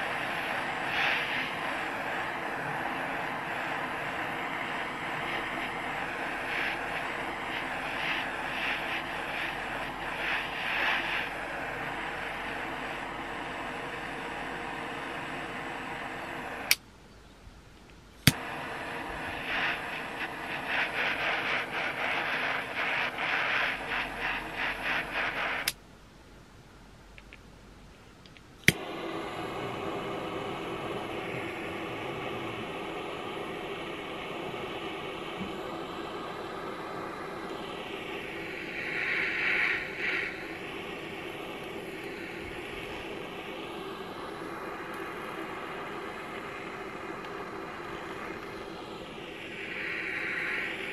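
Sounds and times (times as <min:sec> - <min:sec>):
jet torch lighter hissing: 0:00.0 - 0:16.8, 0:18.2 - 0:25.8, 0:28.5 - 0:50.9.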